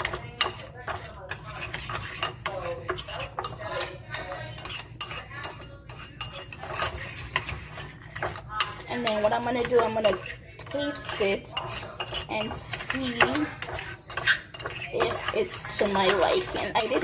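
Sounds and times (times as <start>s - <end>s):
spoon scraping and clinking bowl: 0.0s - 17.0s.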